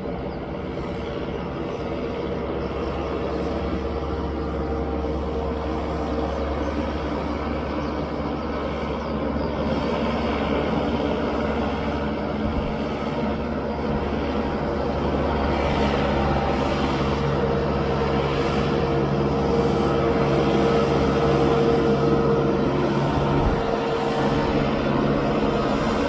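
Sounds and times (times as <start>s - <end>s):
tractor engine running under load: 1.3s - 26.0s.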